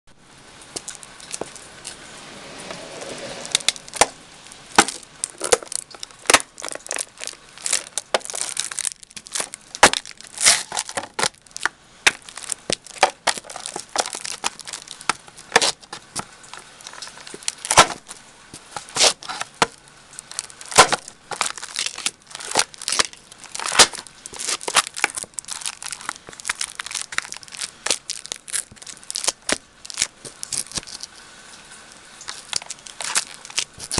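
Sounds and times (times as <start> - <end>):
plastic container crunching: 0.8 - 2.0, 2.7 - 31.2, 32.2 - 33.9.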